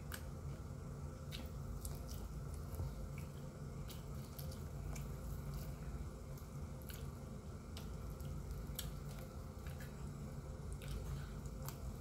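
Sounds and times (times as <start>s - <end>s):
wet chewing: 1.2s - 12.0s.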